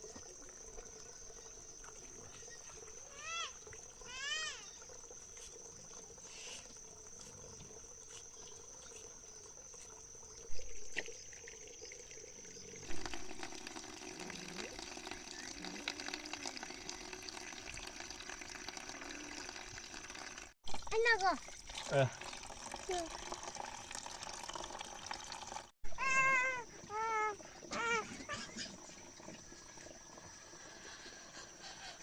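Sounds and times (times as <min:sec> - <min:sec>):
water sloshing and trickling: 0:00.0 - 0:32.0.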